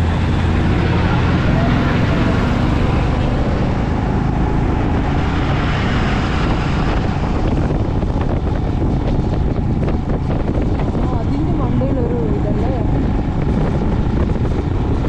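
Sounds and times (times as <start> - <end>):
motorcycle engine and road noise: 0.0 - 15.0
wind rushing over microphone: 0.0 - 15.0.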